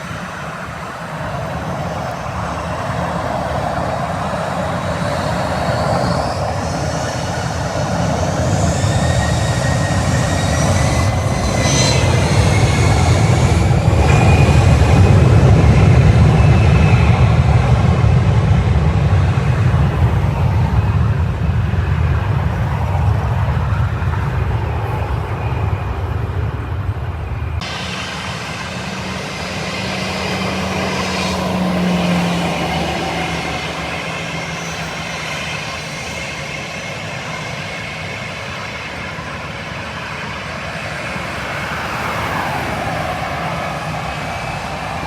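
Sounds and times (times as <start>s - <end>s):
deep engine rumble: 0.0s - 39.6s
jet engine whine: 0.0s - 45.0s.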